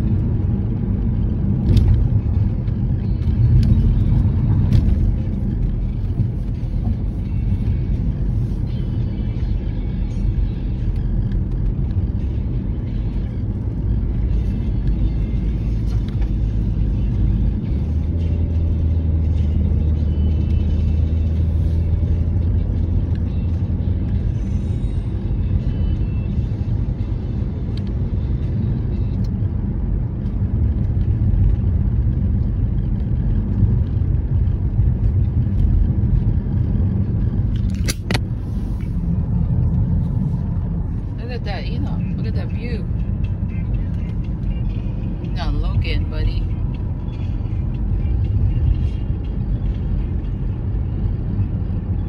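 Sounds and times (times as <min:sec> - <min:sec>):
car road rumble inside cabin: 0:00.0 - 0:52.0
low hum: 0:00.0 - 0:52.0.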